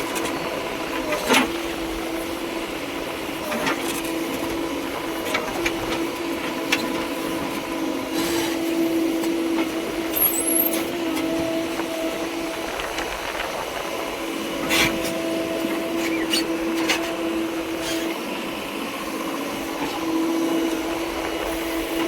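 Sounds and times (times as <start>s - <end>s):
machinery engine humming: 0.0s - 22.0s.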